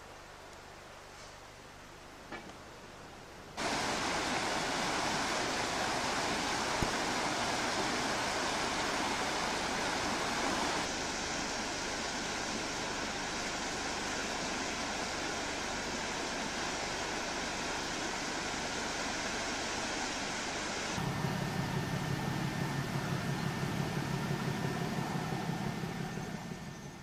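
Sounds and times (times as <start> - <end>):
river water rushing: 3.6 - 27.0.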